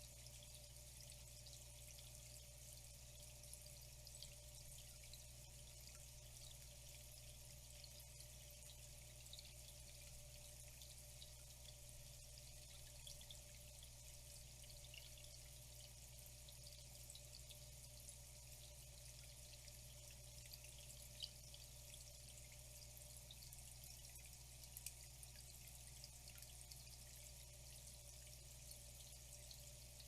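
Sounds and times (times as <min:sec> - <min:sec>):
low steady hum: 0:00.0 - 0:30.0
water trickling and dripping: 0:00.0 - 0:30.0.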